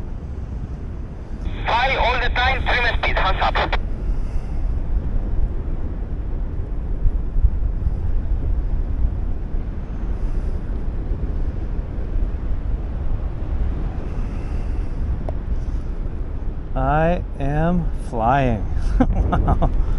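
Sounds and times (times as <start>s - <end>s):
wind buffeting microphone: 0.0s - 18.0s, 18.6s - 19.9s.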